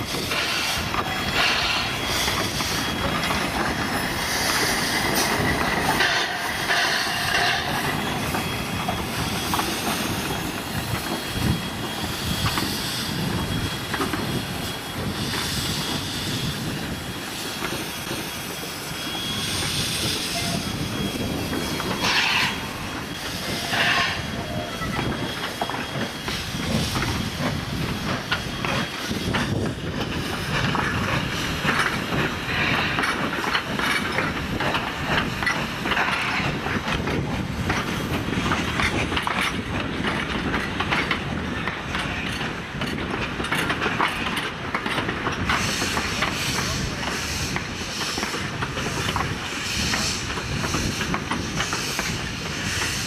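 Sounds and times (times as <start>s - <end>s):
steam hissing: 0.0s - 43.1s, 43.7s - 53.0s
train rumbling and clattering: 0.0s - 53.0s.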